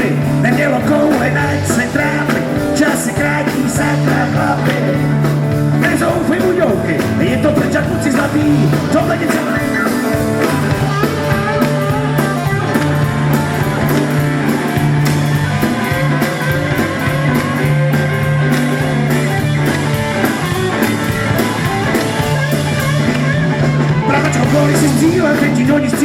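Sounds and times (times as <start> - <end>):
bass line: 0.0 - 26.0
drum beat: 0.0 - 26.0
electric guitar playing: 0.0 - 26.0.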